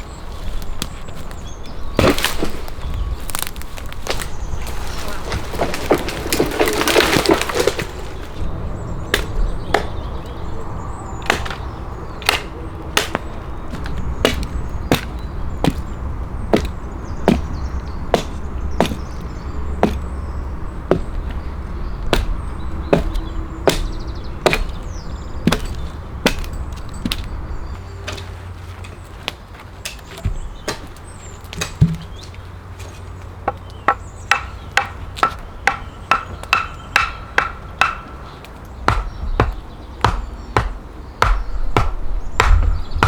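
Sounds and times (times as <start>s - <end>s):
axe chopping log: 0.6s - 8.1s, 9.1s - 10.4s, 11.2s - 27.4s, 29.9s - 32.3s, 33.5s - 38.1s, 38.8s - 43.0s.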